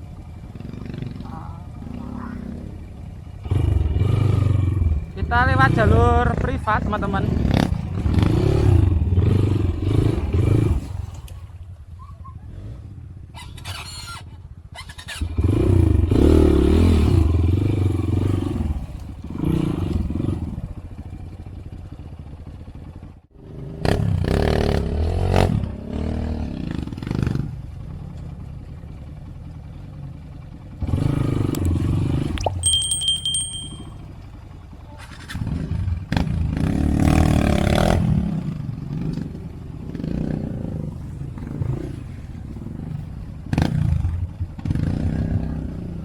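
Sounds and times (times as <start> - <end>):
motorcycle engine revving: 0.0 - 11.9, 12.5 - 46.0.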